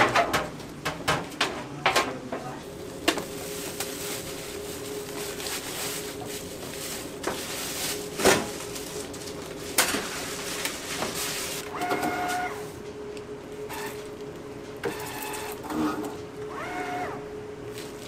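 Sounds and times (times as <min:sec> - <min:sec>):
steady hum and hiss: 0:00.0 - 0:18.0.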